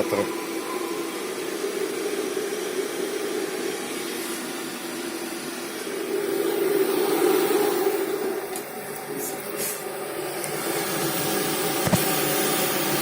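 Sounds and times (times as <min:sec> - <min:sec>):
cooling fan whooshing hum: 0:00.0 - 0:13.0.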